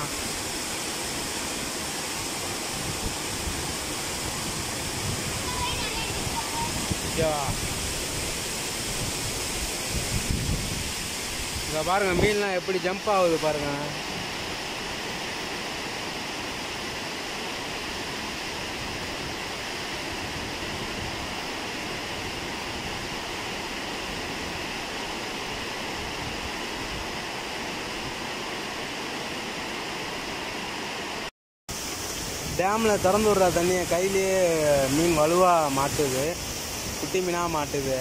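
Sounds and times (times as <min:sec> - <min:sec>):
water rushing over spillway: 0:00.0 - 0:38.0.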